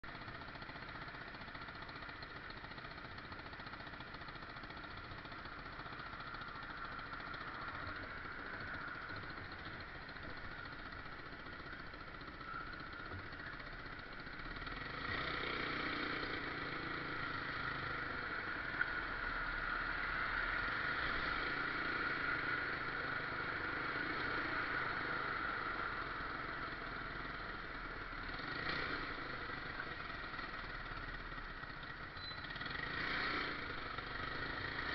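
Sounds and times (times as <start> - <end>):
vehicle engine running: 0.0 - 34.9.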